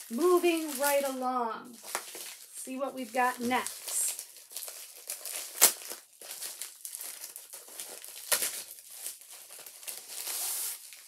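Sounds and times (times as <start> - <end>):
plastic wrapping crinkling: 0.0 - 11.0
sharp plastic crackles: 0.0 - 11.0.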